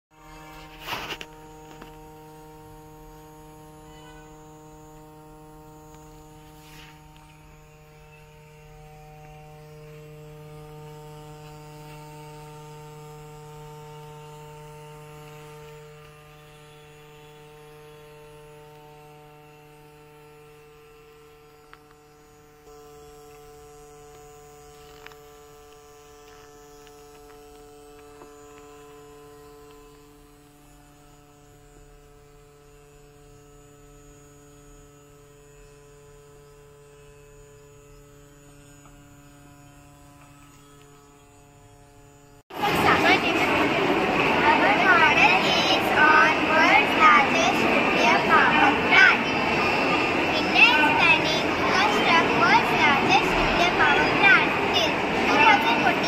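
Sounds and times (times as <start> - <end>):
steady electrical hum: 0.2 - 56.0.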